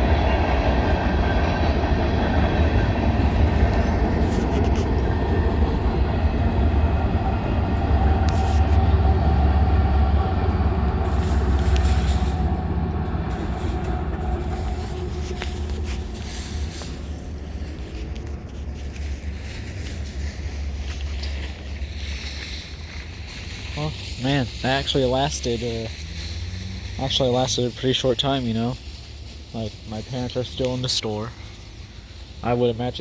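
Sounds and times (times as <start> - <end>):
freight train rumbling past: 0.0 - 33.0
train clanks and squeaks: 0.0 - 33.0.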